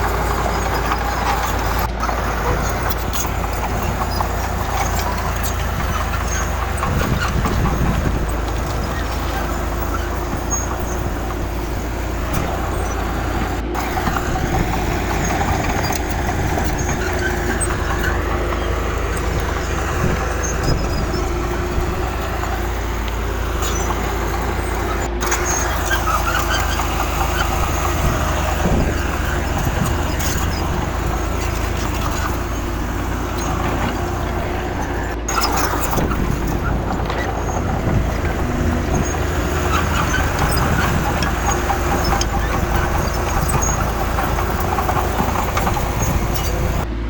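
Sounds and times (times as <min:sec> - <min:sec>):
heavy machinery diesel engines: 0:00.0 - 0:47.0.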